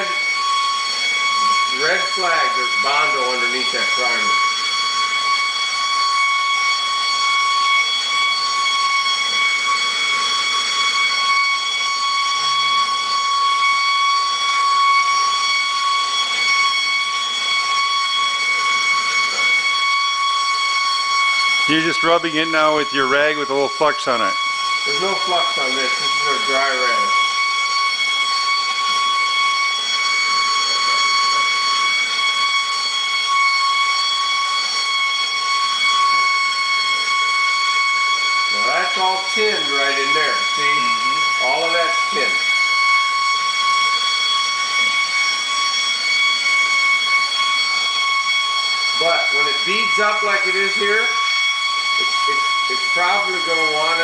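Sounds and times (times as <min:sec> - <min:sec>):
steady high whistle: 0:00.0 - 0:54.0.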